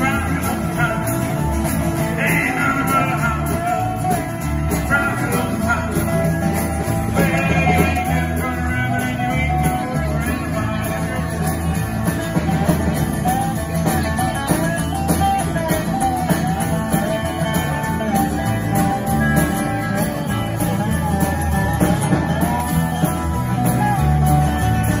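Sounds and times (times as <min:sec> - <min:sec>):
sliding lap steel guitar: 0:00.0 - 0:25.0
strummed acoustic guitars: 0:00.0 - 0:25.0
upright bass walking: 0:00.0 - 0:25.0.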